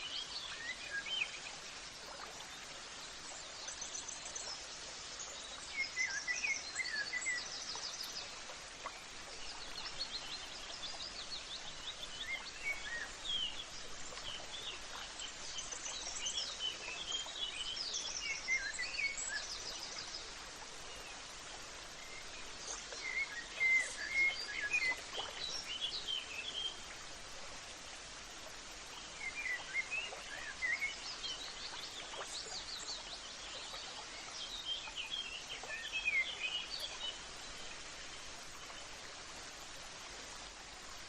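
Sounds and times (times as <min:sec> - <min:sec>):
faint outdoor hiss: 0:00.0 - 0:41.0.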